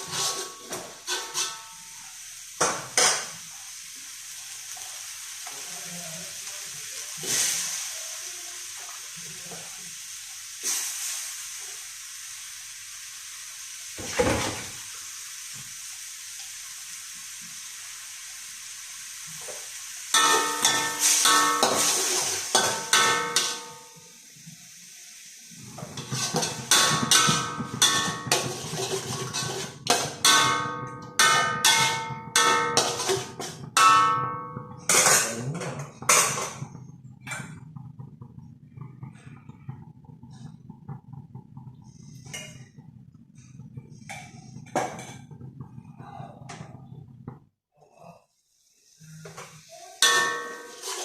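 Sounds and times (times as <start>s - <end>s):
food sizzling in a frying pan: 0.0s - 46.0s, 48.3s - 51.0s.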